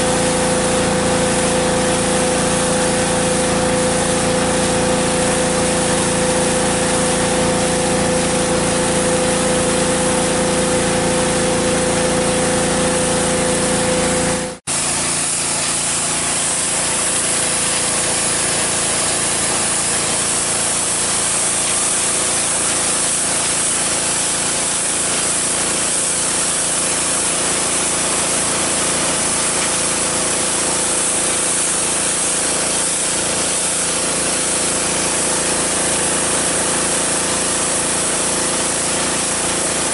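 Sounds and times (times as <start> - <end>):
pressure washer engine running: 0.0 - 39.9
water jet spray hiss: 0.0 - 39.9.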